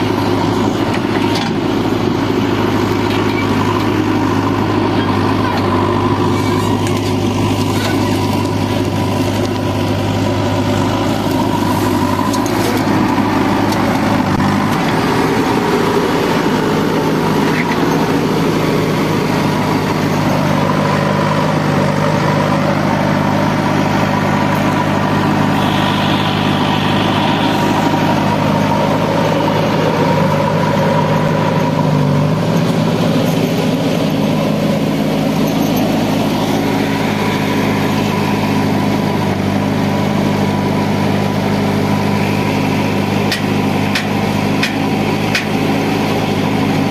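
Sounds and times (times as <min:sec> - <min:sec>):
diesel engines idling: 0:00.0 - 0:46.9.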